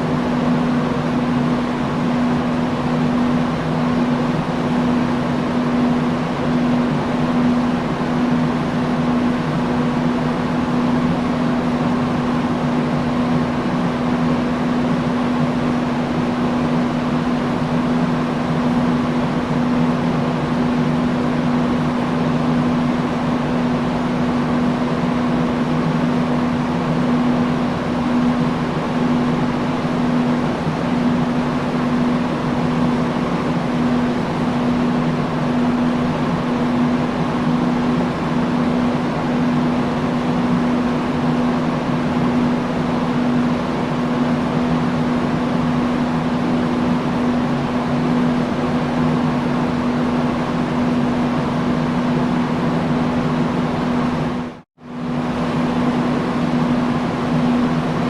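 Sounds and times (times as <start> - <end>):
industrial fan air rushing: 0.0 - 58.0
low motor hum: 0.0 - 58.0.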